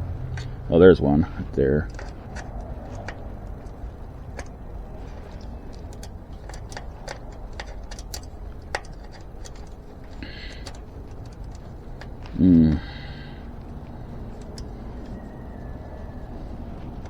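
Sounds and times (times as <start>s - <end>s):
low steady hum: 0.0s - 17.0s
spoke wrench clicking: 0.2s - 0.7s, 1.4s - 12.4s, 13.0s - 16.0s.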